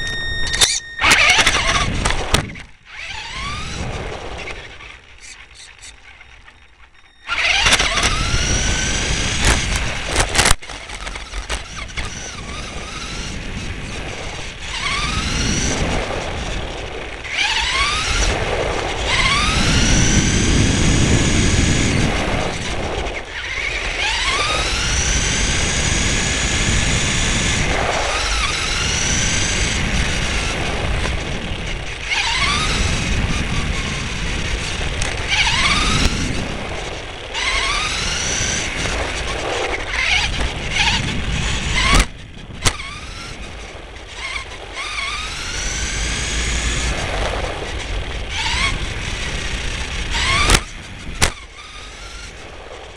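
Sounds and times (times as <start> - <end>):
rc car motor whining: 0.0 - 52.9
tyres rumbling on asphalt: 1.0 - 52.9.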